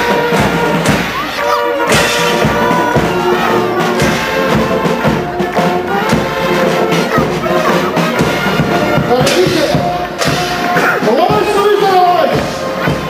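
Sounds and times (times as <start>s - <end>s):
drum and cymbal beat: 0.0s - 13.0s
marching brass band: 0.0s - 13.0s.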